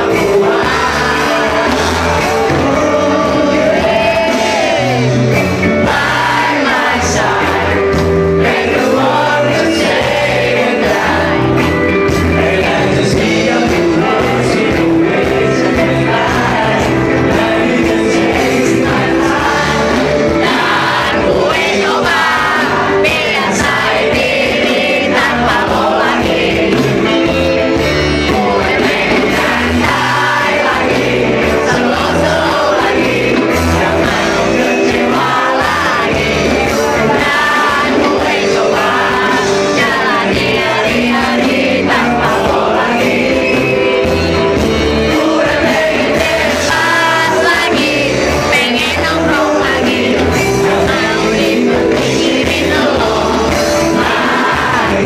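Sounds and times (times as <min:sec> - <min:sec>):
live rock band playing: 0:00.0 - 0:55.0
man singing: 0:00.0 - 0:55.0.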